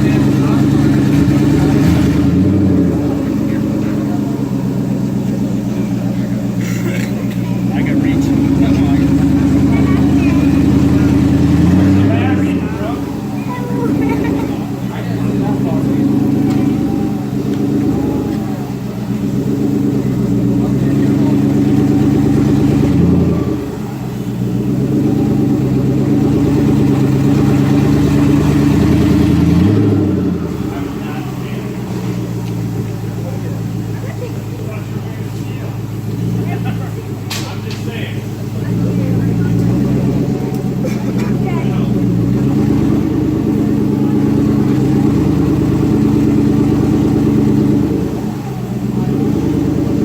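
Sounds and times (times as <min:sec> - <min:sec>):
engine revving on dyno: 0:00.0 - 0:50.0.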